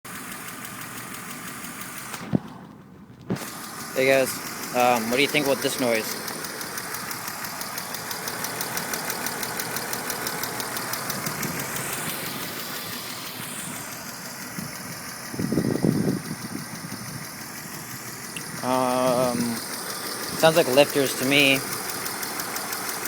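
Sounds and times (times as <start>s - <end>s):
car engine idling: 0.1s - 23.0s
rapid engine ticking: 0.1s - 23.0s.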